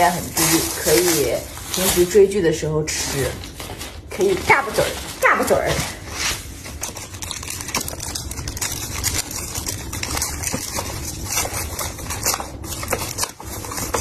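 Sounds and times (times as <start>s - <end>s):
packaging crinkling and tearing: 0.0s - 2.4s, 3.0s - 14.0s.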